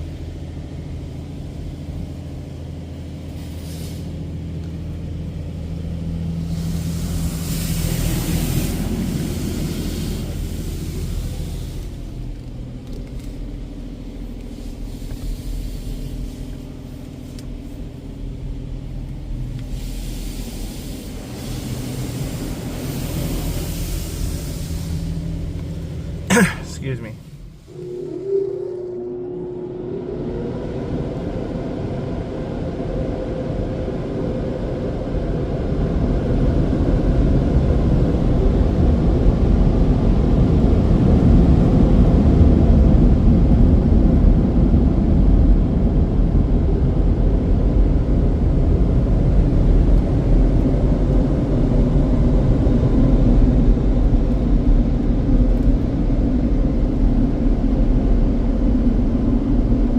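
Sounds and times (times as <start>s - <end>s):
car wash dryer blowers: 0.0s - 59.9s.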